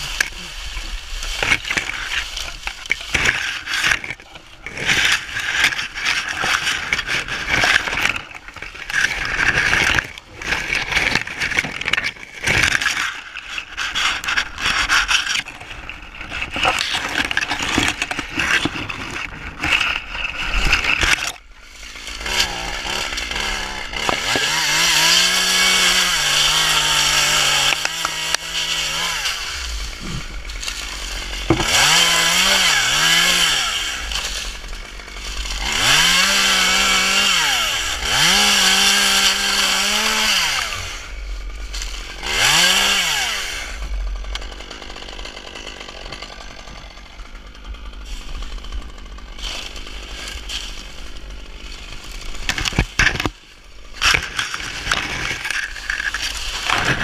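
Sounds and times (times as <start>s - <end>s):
chainsaw revving and cutting: 0.0s - 57.0s
dry palm fronds rustling: 0.0s - 57.0s.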